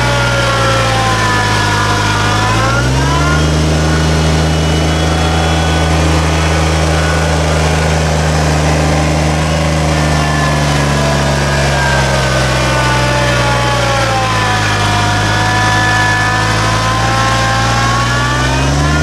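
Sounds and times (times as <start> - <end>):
diesel tractor engine revving: 0.0 - 19.0
faint whine: 0.0 - 19.0.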